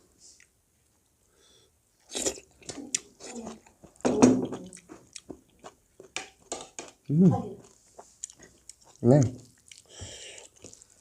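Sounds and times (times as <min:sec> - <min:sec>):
person chewing food: 0:02.0 - 0:11.0.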